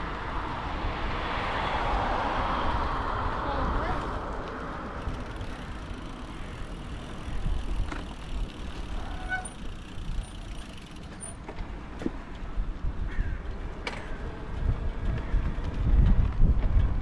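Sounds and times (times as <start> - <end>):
wind rumble on microphone: 0.0 - 10.3, 12.0 - 17.0
bike rolling noise: 0.0 - 17.0.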